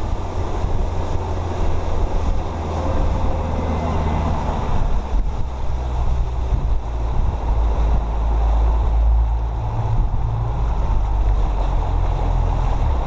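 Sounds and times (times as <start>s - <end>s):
outboard motor running: 0.0s - 13.0s
wake water rushing: 0.0s - 13.0s
wind buffeting microphone: 0.0s - 13.0s.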